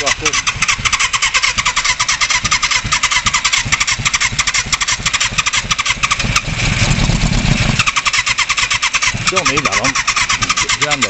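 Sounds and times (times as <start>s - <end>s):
large engine running at full throttle: 0.0s - 11.0s.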